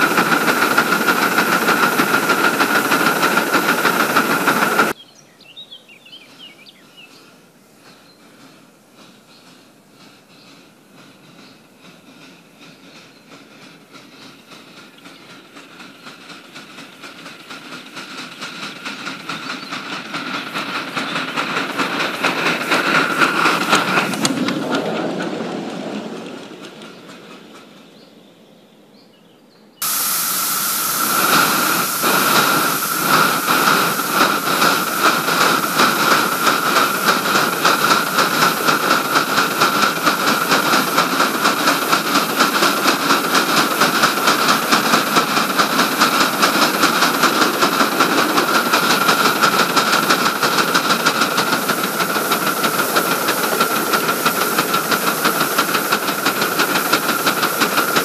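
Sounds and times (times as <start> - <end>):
steam hiss: 0.0 - 5.0, 6.2 - 25.4, 29.8 - 58.0
steam locomotive chuffs: 0.0 - 5.0, 6.0 - 28.2, 29.8 - 58.0
passing train: 0.0 - 58.0.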